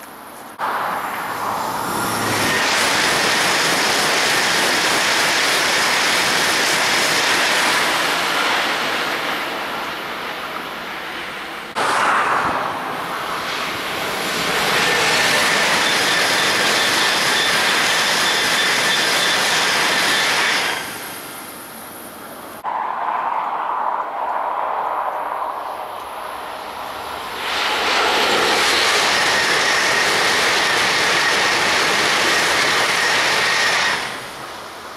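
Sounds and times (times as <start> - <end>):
high-speed train passing: 0.0 - 34.9.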